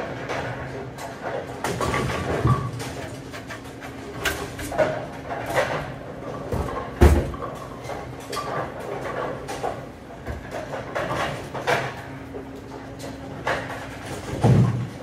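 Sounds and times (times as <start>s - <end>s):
bowling pins clattering: 0.0s - 15.0s.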